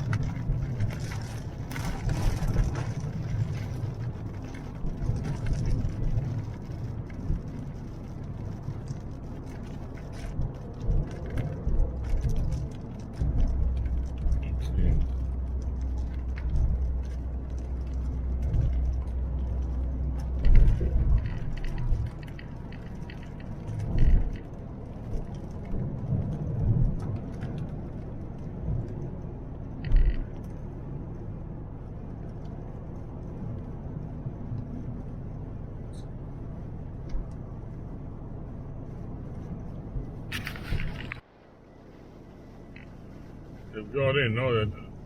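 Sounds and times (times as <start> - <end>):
car road noise rumble: 0.0 - 45.0.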